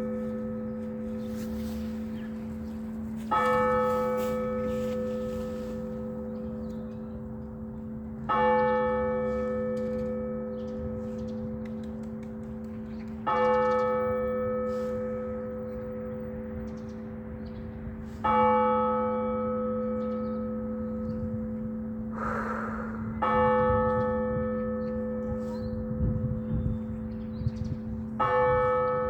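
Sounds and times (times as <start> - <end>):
church bell tolling: 0.0 - 22.2, 23.0 - 29.0.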